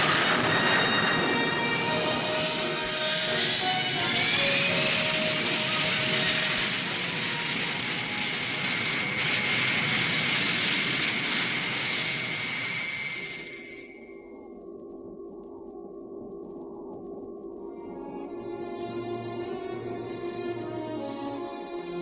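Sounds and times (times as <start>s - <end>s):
spaceship engine hiss and whine: 0.0s - 22.0s.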